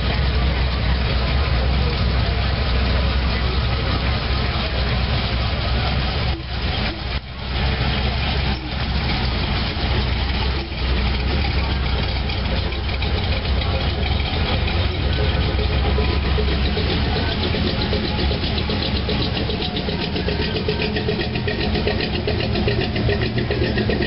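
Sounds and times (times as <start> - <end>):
pickup truck engine idling: 0.0 - 24.0.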